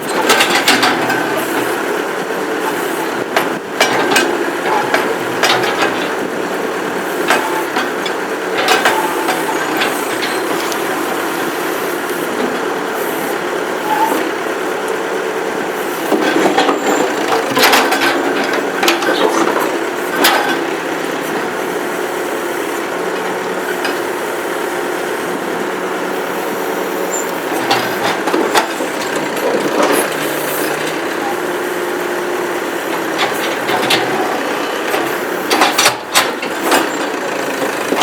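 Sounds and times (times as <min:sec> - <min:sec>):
backhoe engine running: 0:00.0 - 0:38.0.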